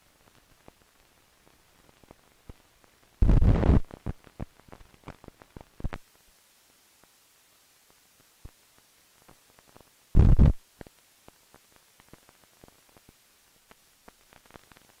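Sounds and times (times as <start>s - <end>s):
film soundtrack crackles: 0.0s - 15.0s.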